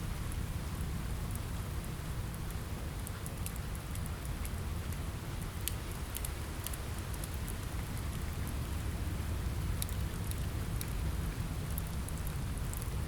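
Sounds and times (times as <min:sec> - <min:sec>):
rain on a window: 0:00.0 - 0:13.0.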